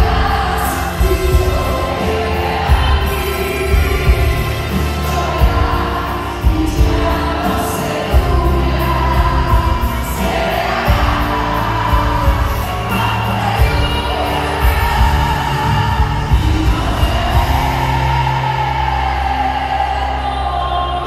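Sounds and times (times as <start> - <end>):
band with strings and drums: 0.0 - 21.0
woman singing a ballad: 0.0 - 21.0.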